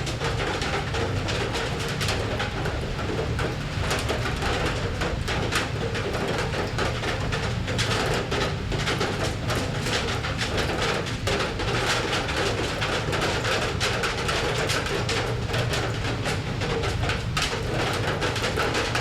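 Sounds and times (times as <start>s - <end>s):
rain pattering on metal: 0.0s - 19.0s.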